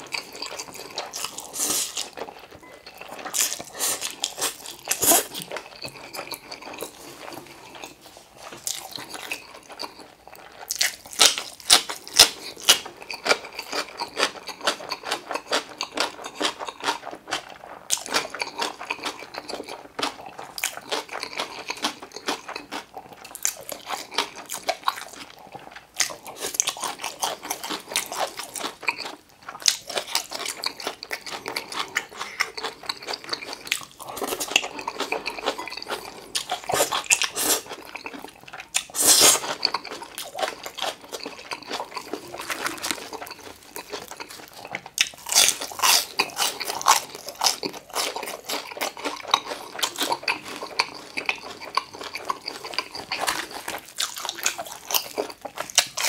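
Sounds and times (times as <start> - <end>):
crunching crispy food: 0.0 - 56.0
wet chewing and smacking: 0.0 - 56.0.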